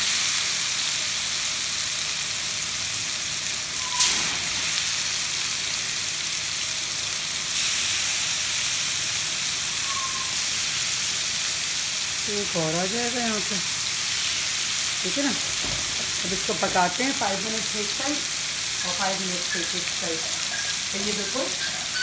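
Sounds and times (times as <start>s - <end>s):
meat sizzling in a frying pan: 0.0s - 22.0s.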